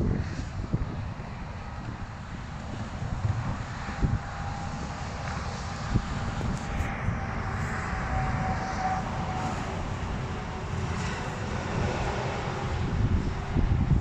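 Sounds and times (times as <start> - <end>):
aircraft engine drone: 0.0 - 14.0.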